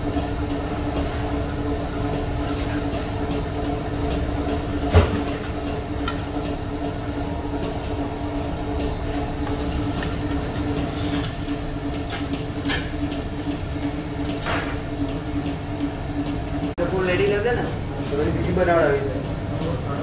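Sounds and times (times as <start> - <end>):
machinery hum and rumble: 0.0 - 20.0.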